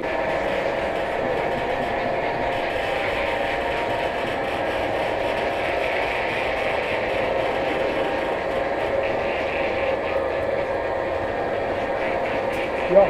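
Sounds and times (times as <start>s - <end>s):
vehicle running rumble: 0.0s - 13.0s.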